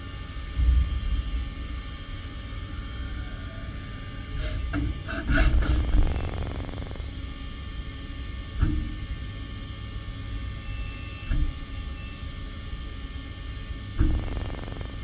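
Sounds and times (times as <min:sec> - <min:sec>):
machine hum with high whine: 0:00.0 - 0:15.0.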